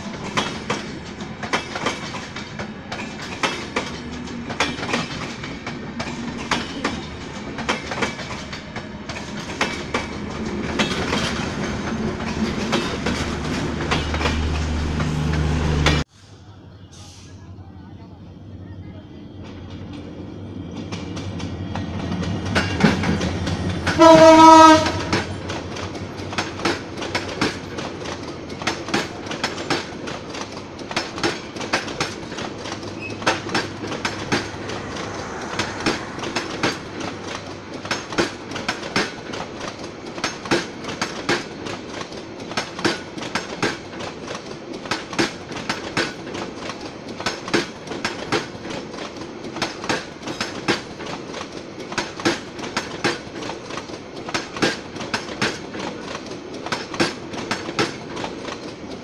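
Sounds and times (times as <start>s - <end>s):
train wheels clicking over rail joints: 0.0s - 16.1s, 19.4s - 59.0s
train rumble: 0.0s - 59.0s.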